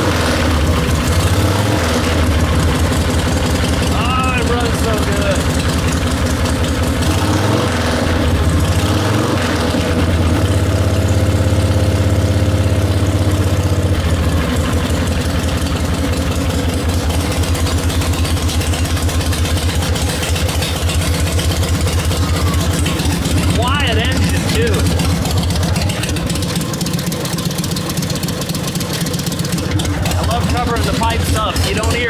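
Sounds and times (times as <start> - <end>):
motorcycle engine idling: 0.0 - 7.5, 8.1 - 8.9, 9.7 - 32.0.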